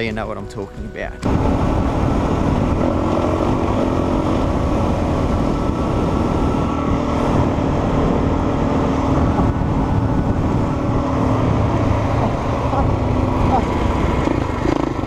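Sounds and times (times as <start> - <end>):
dense noisy rush: 0.0 - 15.0
motorbike engine running: 0.0 - 15.0.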